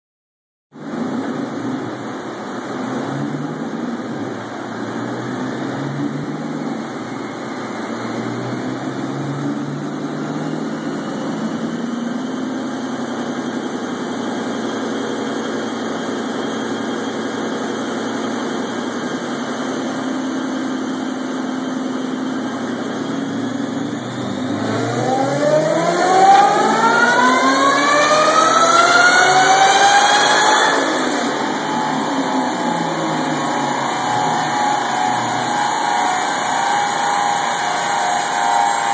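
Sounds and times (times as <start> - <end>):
car engine on dyno: 0.7 - 38.9.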